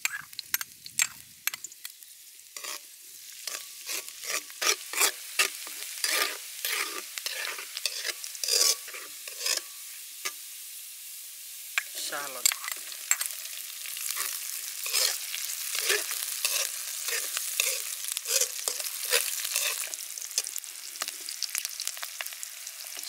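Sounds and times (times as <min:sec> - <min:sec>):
metal spoon scraping a pan: 0:00.0 - 0:01.8, 0:02.6 - 0:10.4, 0:11.8 - 0:22.3
garlic sizzling in hot oil: 0:00.0 - 0:23.0.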